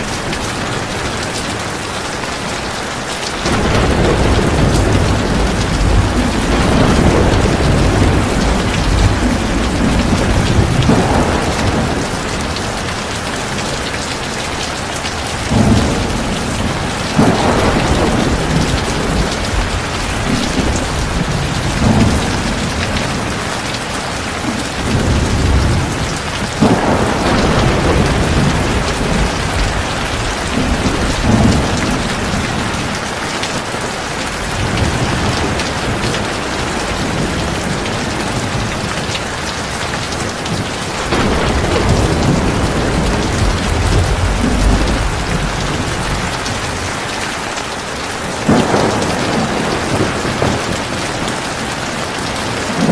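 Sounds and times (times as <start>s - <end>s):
heavy rain pouring: 0.0s - 52.9s
thunder rumbling: 0.0s - 52.9s.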